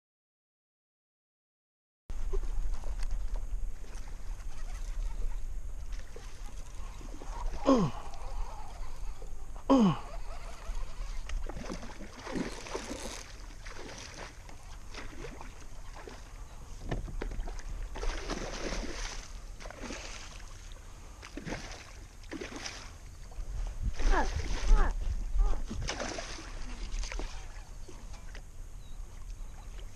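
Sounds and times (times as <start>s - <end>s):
water splashing around kayak: 2.2s - 29.9s.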